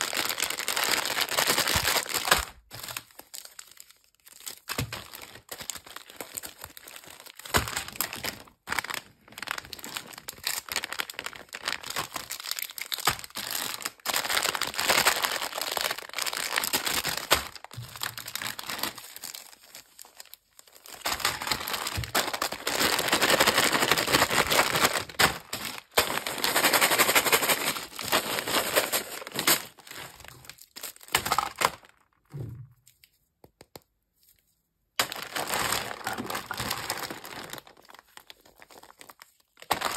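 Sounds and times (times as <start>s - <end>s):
plastic candy wrappers crinkling: 0.0s - 32.2s, 35.0s - 39.9s.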